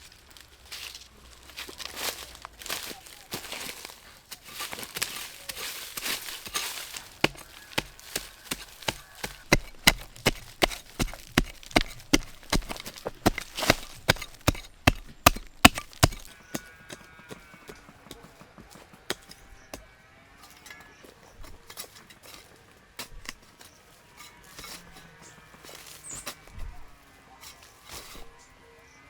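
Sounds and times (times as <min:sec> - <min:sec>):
rustling and scraping: 0:00.0 - 0:29.0
chopping into wood: 0:04.5 - 0:28.5.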